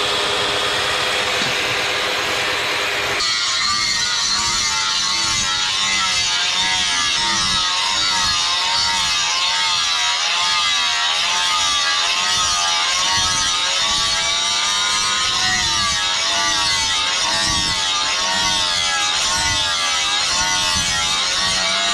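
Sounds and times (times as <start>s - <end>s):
grinder motor whine: 0.0s - 21.9s.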